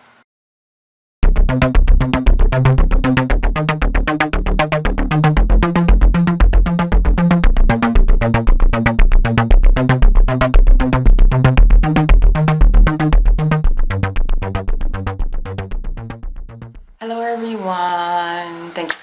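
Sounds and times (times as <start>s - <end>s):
fast steady beat: 1.2s - 17.0s
synthesizer bass line: 1.2s - 17.0s.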